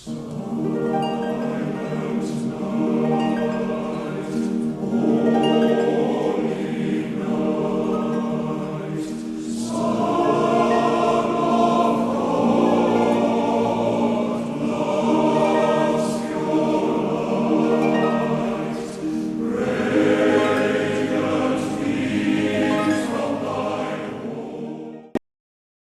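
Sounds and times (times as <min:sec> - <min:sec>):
choir singing slow chords: 0:00.0 - 0:25.2
musical accompaniment: 0:00.0 - 0:25.2.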